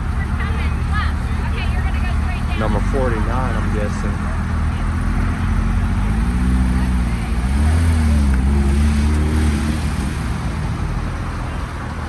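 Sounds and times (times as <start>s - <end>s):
car engine rolling past: 0.0s - 11.9s.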